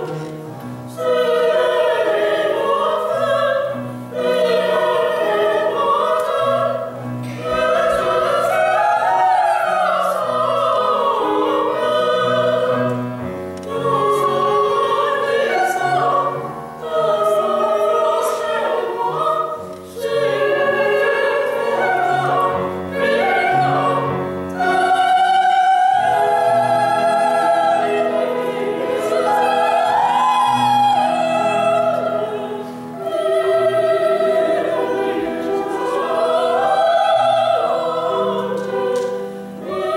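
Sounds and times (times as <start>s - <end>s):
operatic singing: 0.9s - 39.9s.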